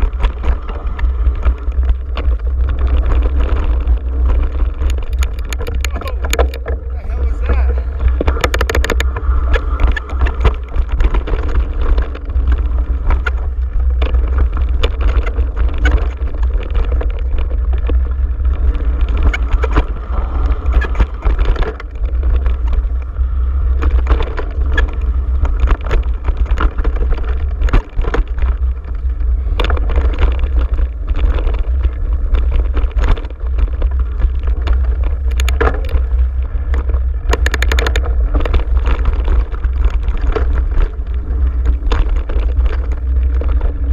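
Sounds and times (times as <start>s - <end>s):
bike rattling over bumps: 0.0s - 43.9s
bike tyres on dirt: 0.0s - 43.9s
wind rumbling on microphone: 0.0s - 43.9s.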